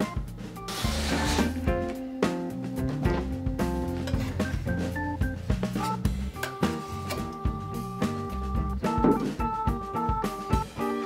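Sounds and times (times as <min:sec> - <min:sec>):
held pitched background music notes: 0:00.0 - 0:11.0.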